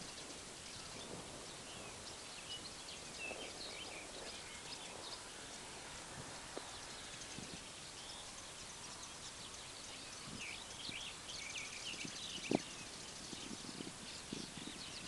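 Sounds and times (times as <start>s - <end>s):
faint steady hiss: 0.0s - 15.0s
small birds chirping: 0.0s - 15.0s.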